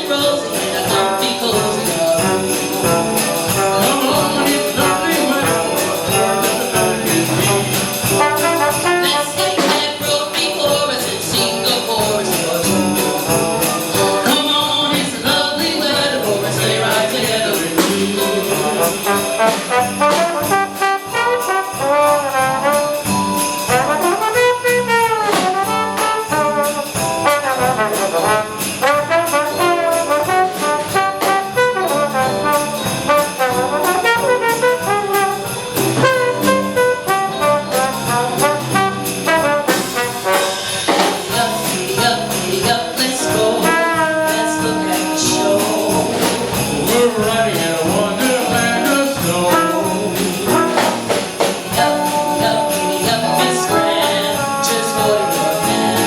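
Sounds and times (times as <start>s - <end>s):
jazz band playing: 0.0s - 56.0s
sleigh bells jingling: 0.0s - 56.0s
trumpets and trombones: 0.0s - 56.0s.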